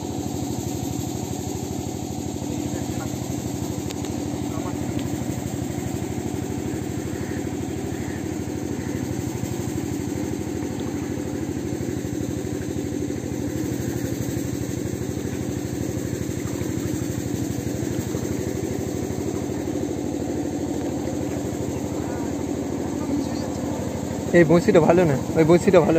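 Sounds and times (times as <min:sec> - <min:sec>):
engine droning steadily: 0:00.0 - 0:25.9.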